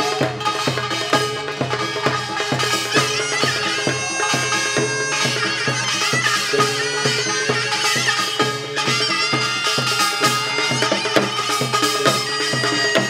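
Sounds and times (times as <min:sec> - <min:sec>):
drums beating steady rhythm: 0:00.0 - 0:13.0
reedy wind melody: 0:00.0 - 0:13.0.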